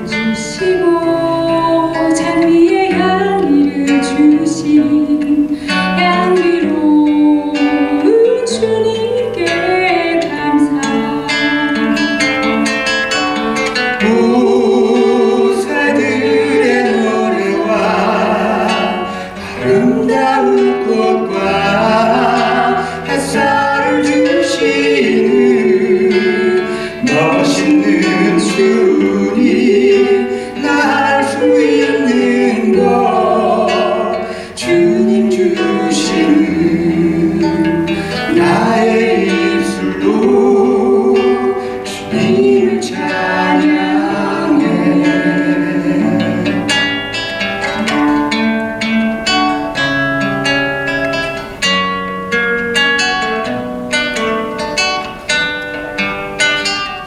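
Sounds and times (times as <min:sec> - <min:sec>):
man and woman singing duet: 0:00.0 - 0:48.0
classical guitar: 0:00.0 - 0:57.0.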